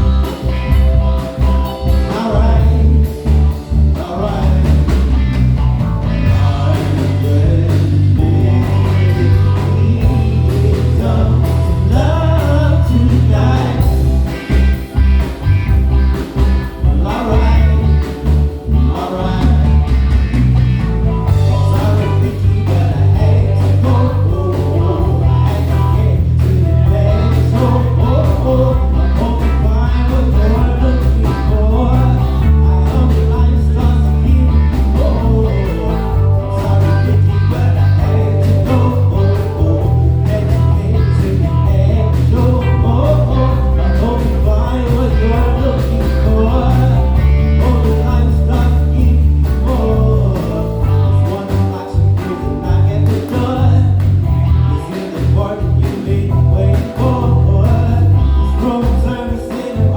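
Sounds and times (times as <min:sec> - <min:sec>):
drums: 0:00.0 - 0:59.9
heavy electric bass: 0:00.0 - 0:59.9
keyboards: 0:00.0 - 0:59.9
live blues soul band: 0:00.0 - 0:59.9
melodic lead line: 0:00.0 - 0:59.9.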